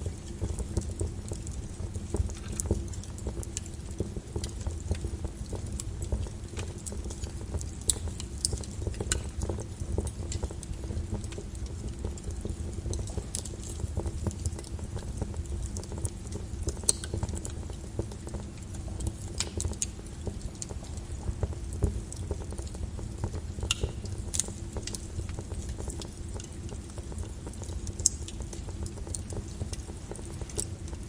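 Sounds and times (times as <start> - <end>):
lava crackling and popping: 0.0 - 31.0.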